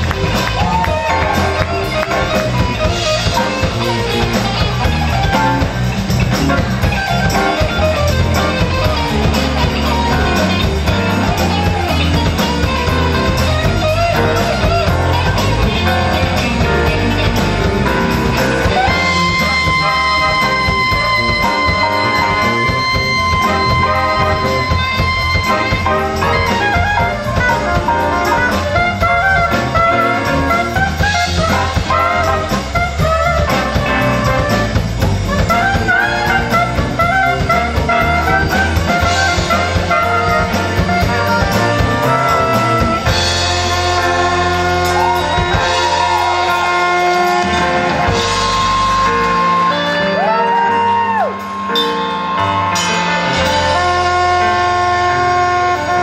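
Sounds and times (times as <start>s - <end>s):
deep electric bass: 0.0s - 56.0s
live jazz band playing: 0.0s - 56.0s.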